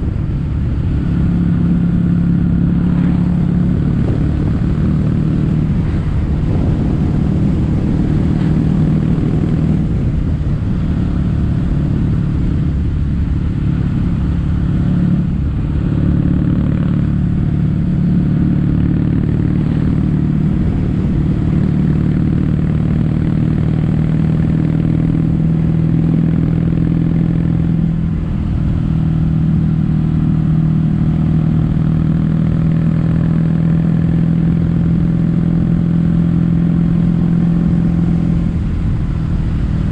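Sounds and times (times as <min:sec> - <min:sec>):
motorcycle engine exhaust note: 0:00.0 - 0:39.9.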